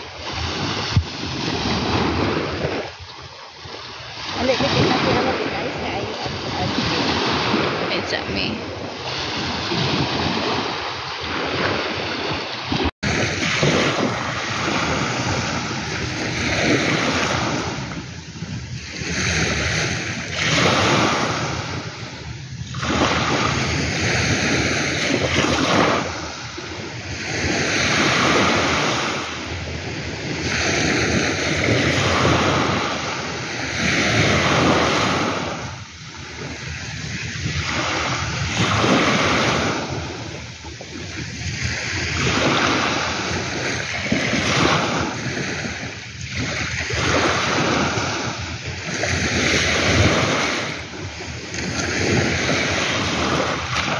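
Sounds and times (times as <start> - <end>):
ocean surf washing ashore: 0.0 - 53.9
wind on microphone: 0.0 - 53.9.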